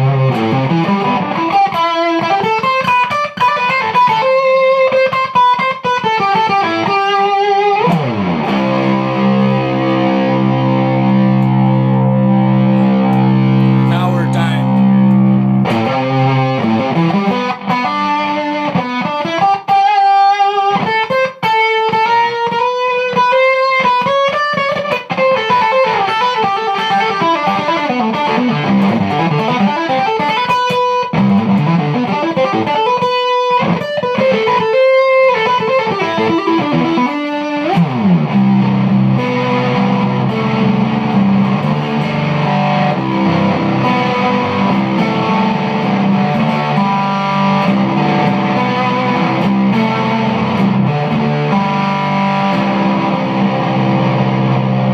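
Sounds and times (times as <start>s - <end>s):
fuzz electric guitar: 0.0s - 54.9s.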